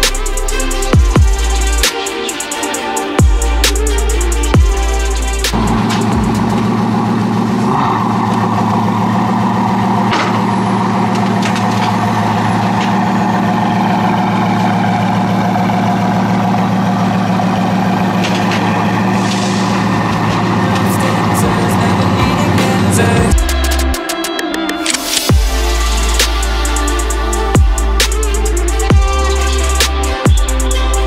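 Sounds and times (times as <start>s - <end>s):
car engine idling: 0.0s - 24.2s, 25.0s - 31.0s.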